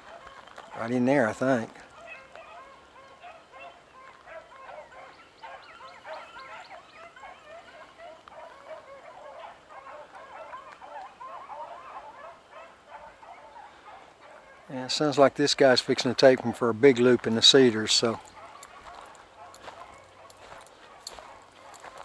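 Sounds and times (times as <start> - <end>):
pack of dogs baying: 0.0 - 15.1, 16.0 - 22.0.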